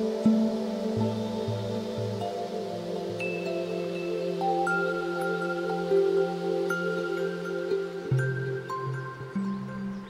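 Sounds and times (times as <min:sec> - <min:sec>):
ambient film score: 0:00.0 - 0:10.0.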